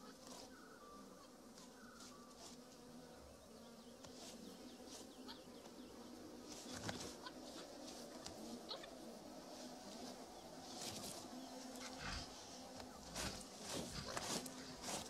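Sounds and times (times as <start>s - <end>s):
insect buzzing: 0.0s - 15.0s.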